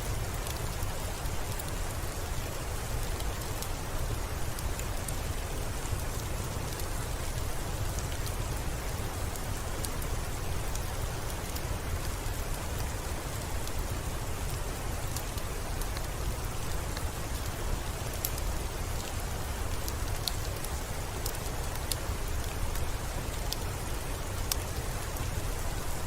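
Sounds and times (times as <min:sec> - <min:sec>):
rain on window glass: 0:00.0 - 0:26.0.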